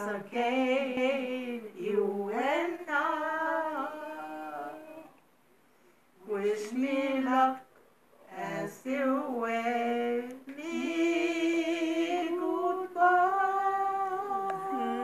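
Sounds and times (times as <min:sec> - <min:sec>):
women singing together: 0:00.0 - 0:05.2, 0:06.2 - 0:15.0.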